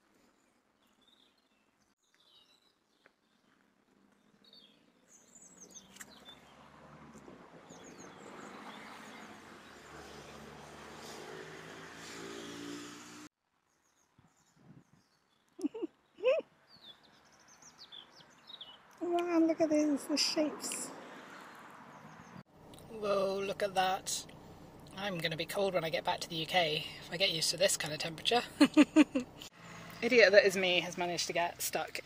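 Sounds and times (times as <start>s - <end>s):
small birds chirping: 0.1s - 11.3s, 13.6s - 32.0s.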